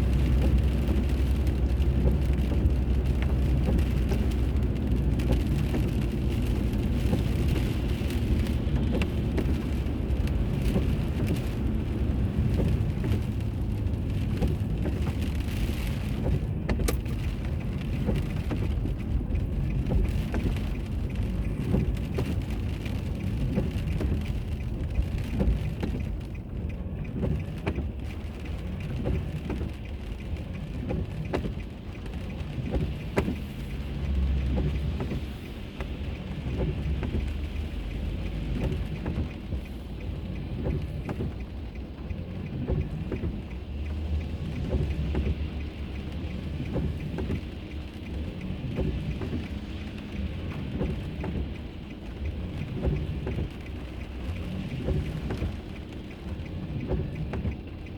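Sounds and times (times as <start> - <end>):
car road rumble: 0.0 - 57.9.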